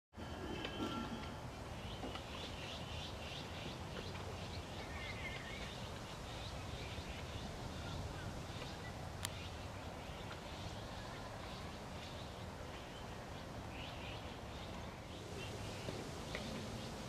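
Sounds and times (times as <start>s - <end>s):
birds chirping: 0.8s - 17.0s.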